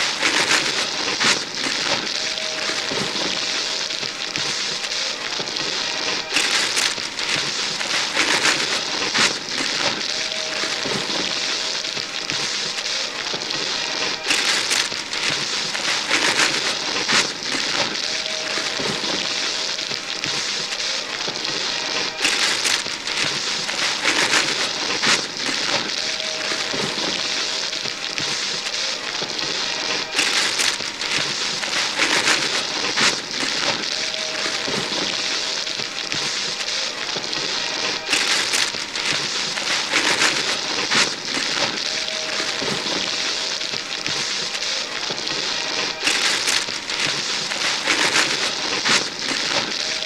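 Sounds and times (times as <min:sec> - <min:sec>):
wrapping paper tearing: 0:00.0 - 0:50.0.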